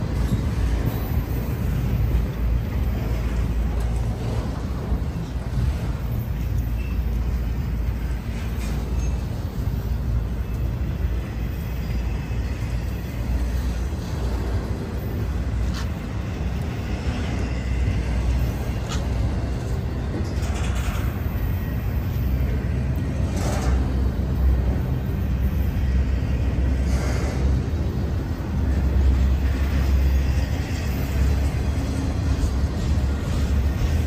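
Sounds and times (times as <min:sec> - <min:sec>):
freight train wheels rumbling on rail: 0:00.0 - 0:34.0
sharp train noises: 0:00.0 - 0:34.0.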